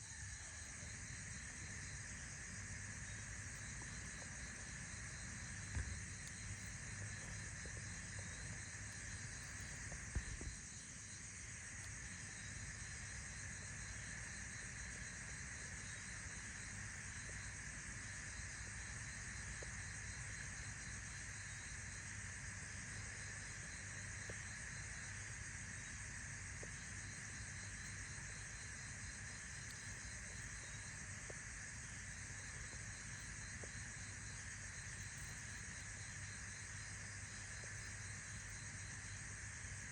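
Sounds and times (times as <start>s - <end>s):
insects chirping: 0.0s - 39.9s
rapid pulsing insect call: 0.0s - 39.9s.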